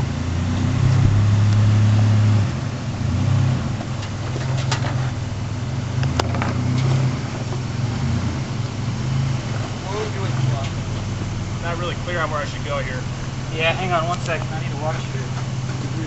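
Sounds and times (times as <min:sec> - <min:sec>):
pickup engine at low revs: 0:00.0 - 0:16.0.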